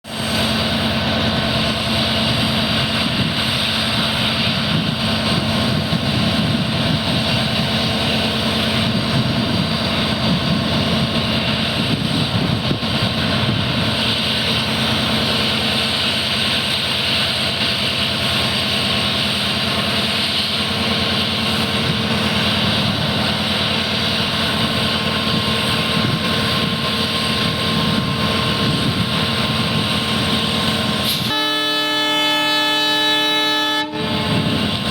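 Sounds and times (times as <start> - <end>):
diesel locomotive engines humming: 0.1 - 34.9.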